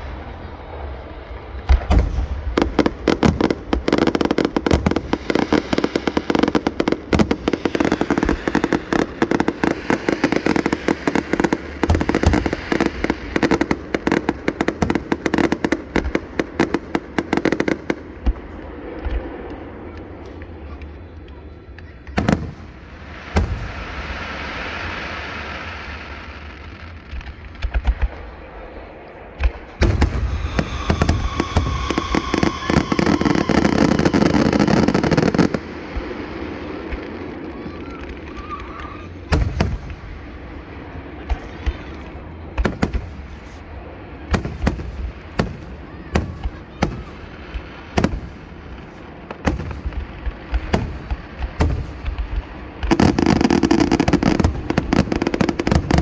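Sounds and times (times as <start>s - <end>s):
fireworks crackling bangs: 0.0s - 56.0s
fireworks hissing rush: 0.0s - 56.0s
fireworks booms and pops: 0.9s - 56.0s.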